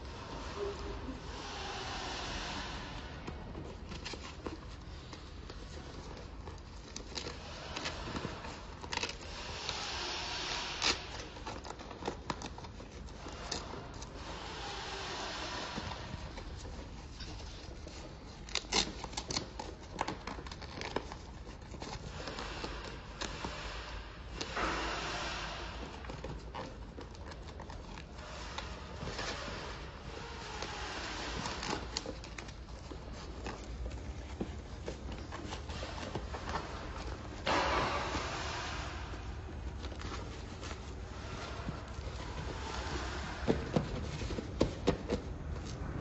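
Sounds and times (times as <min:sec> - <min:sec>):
fabric rustling and crinkling: 0:00.0 - 0:46.0.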